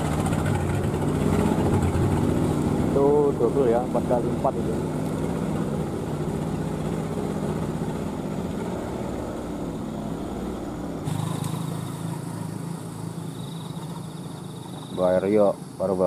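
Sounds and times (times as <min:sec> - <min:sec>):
motorcycle engine running: 0:00.0 - 0:16.0
truck engine driving off: 0:00.0 - 0:16.0.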